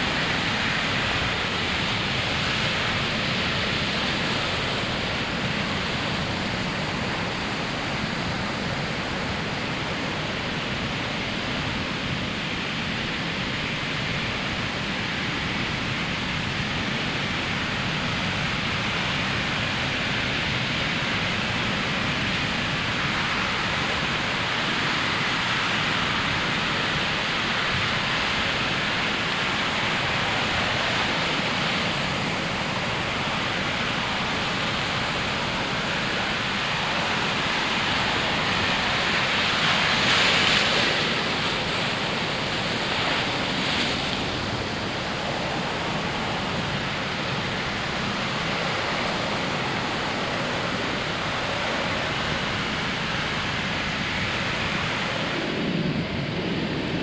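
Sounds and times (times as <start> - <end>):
ocean waves breaking on sand: 0.0 - 57.0.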